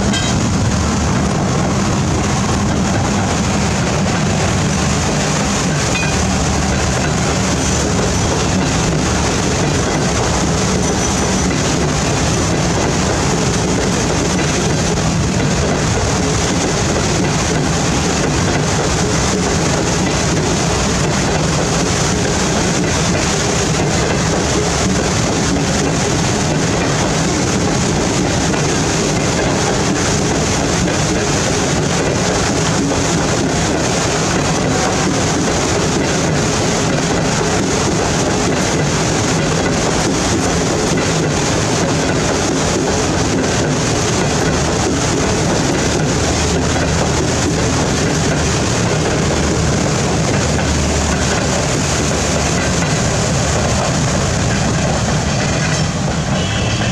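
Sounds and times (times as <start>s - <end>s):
train rolling through water: 0.0s - 56.9s.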